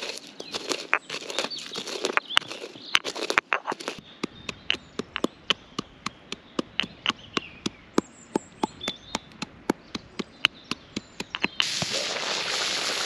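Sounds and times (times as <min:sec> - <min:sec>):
pestle pounding in mortar: 0:00.5 - 0:11.7.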